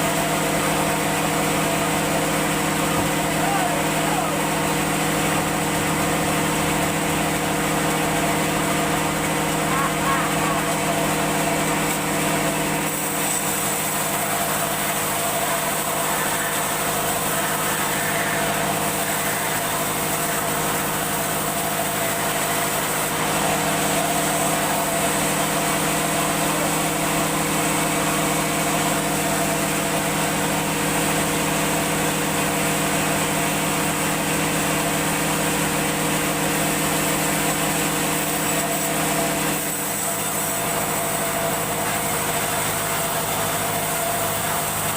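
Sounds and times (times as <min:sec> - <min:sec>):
machine motor humming: 0:00.0 - 0:44.9.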